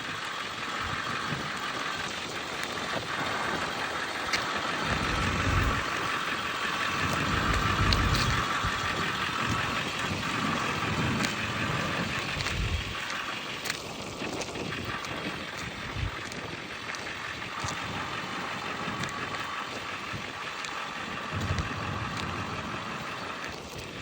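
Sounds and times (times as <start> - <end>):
diesel truck idling: 0.0 - 24.0
wind buffeting microphone: 2.8 - 24.0.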